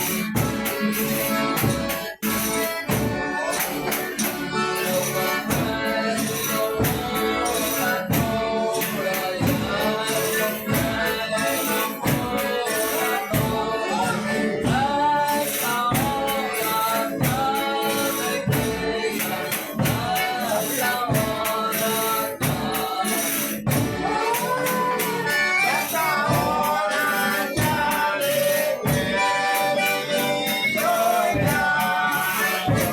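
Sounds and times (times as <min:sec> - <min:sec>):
tambourine percussion: 0:00.0 - 0:32.9
voices singing together: 0:00.0 - 0:32.9.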